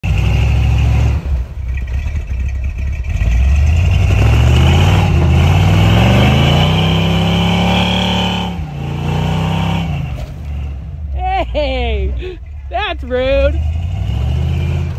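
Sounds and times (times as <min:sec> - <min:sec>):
engine revving: 0:00.0 - 0:11.2, 0:12.2 - 0:14.9
tyres spinning in snow: 0:00.0 - 0:14.9.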